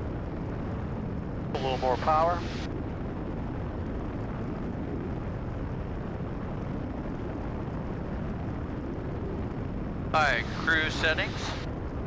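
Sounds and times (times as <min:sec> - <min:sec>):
airplane engine drone: 0:00.0 - 0:12.0.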